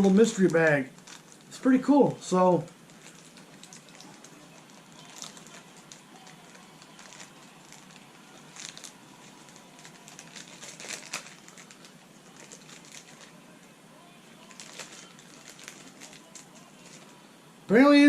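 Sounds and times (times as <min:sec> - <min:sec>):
plastic packaging crinkling: 0:00.0 - 0:01.6, 0:02.3 - 0:13.6, 0:14.4 - 0:17.2.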